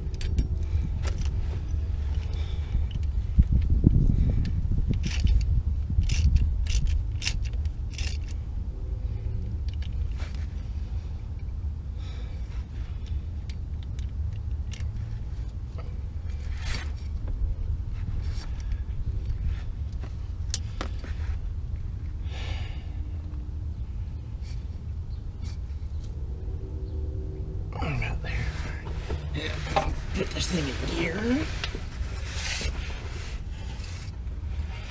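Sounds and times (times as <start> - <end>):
steady low rumble: 0.0 - 34.9.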